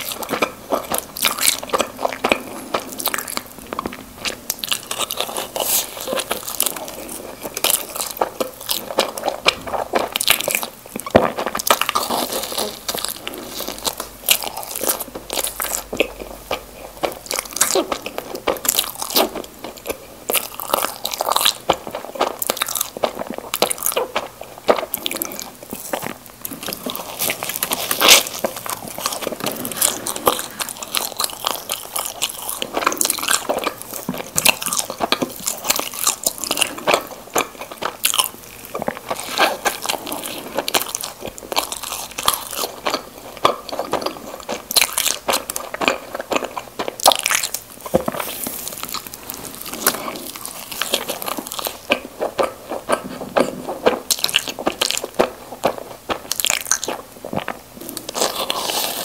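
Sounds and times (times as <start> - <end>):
biting and chewing doughnuts: 0.0 - 59.0.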